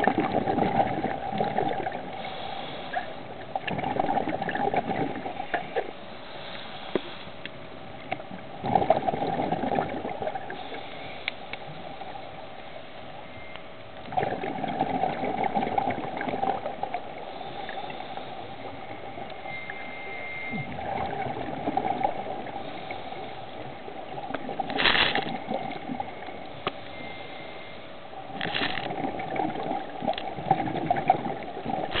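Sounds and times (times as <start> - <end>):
regulator bubbles gurgling: 0.0 - 6.0, 8.0 - 10.8, 13.4 - 27.1, 28.1 - 32.0.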